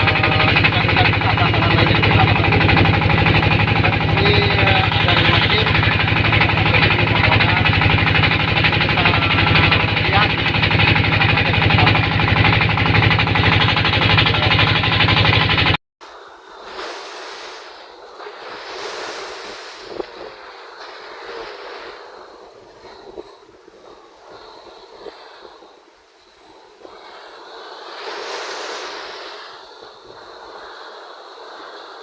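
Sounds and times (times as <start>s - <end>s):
sea waves: 0.0s - 32.0s
wind: 0.0s - 32.0s.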